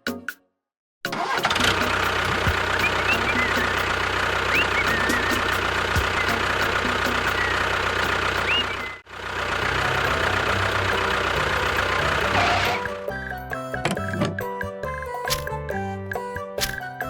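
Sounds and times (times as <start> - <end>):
engine humming and ticking: 1.1 - 17.0.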